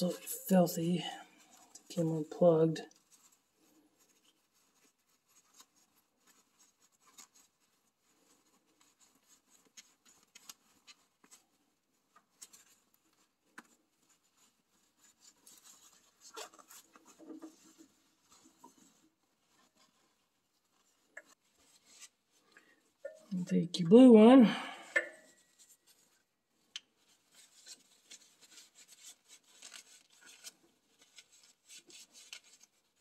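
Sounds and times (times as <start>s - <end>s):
rag rubbing and rustling: 0.0s - 24.4s, 25.0s - 33.0s.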